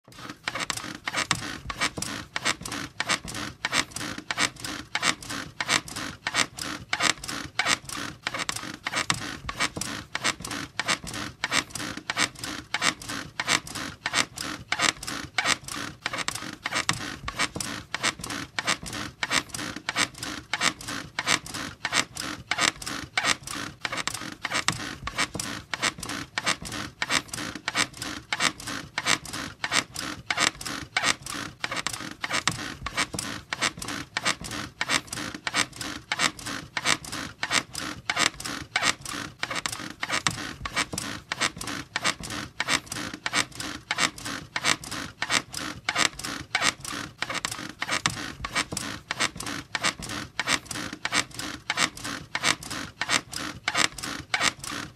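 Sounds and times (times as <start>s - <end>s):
bed springs squeaking: 0.1s - 54.9s.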